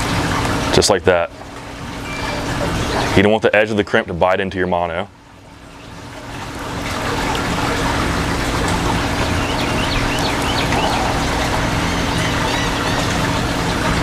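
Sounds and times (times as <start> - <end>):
boat machinery hum: 0.0 - 14.0.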